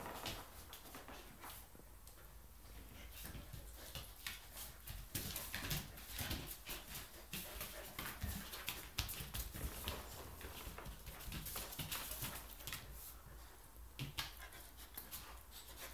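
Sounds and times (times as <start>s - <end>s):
paws and claws scuffling on floor: 0.0s - 15.9s
dogs play-fighting: 2.6s - 15.9s.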